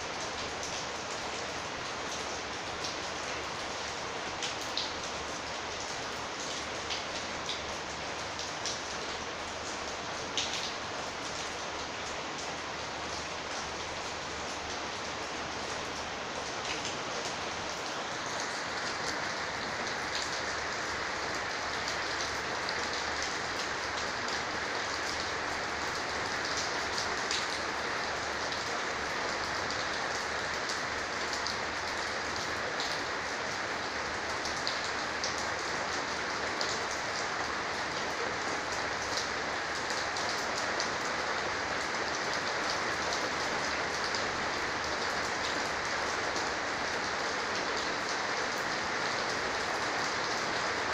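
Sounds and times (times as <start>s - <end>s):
heavy rain on a corrugated roof: 0.0s - 50.9s.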